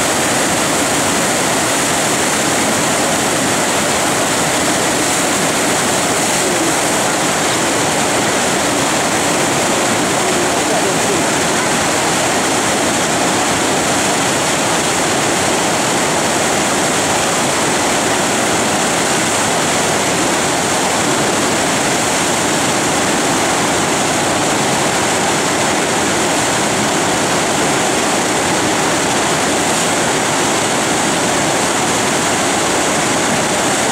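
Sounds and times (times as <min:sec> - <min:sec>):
roar of churning whitewater: 0:00.0 - 0:33.9.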